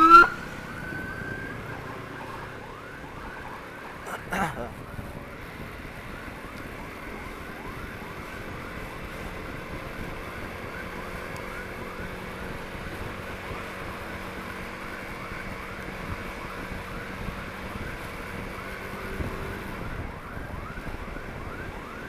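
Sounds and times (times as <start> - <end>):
ambulance siren yelping: 0.0 - 22.0
road and engine rumble: 0.0 - 22.0.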